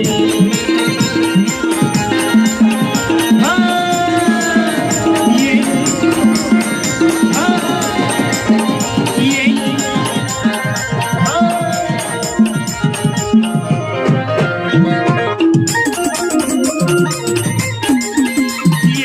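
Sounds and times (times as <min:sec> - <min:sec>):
band music with fast drums: 0:00.0 - 0:19.0.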